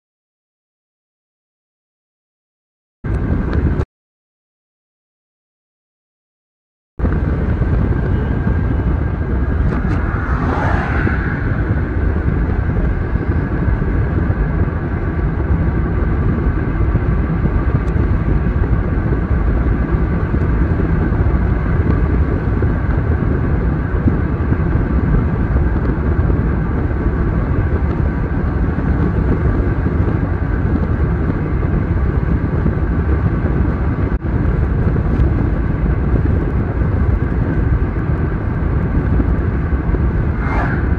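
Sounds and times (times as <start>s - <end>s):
car road and wind noise: 3.1s - 3.8s, 7.0s - 40.9s.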